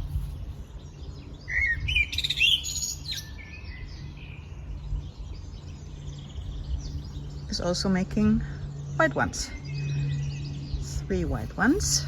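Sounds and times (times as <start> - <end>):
low background rumble: 0.0 - 12.0
songbird singing: 0.0 - 12.0.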